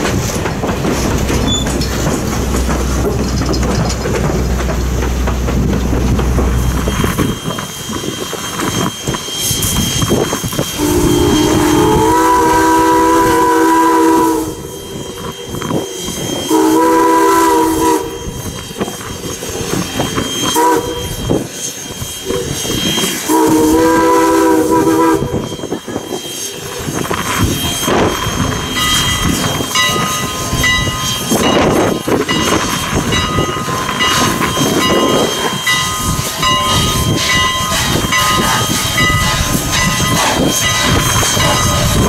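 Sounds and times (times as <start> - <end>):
steam locomotive exhaust chuffing: 0.0 - 42.0
steam locomotive whistle: 6.6 - 42.0.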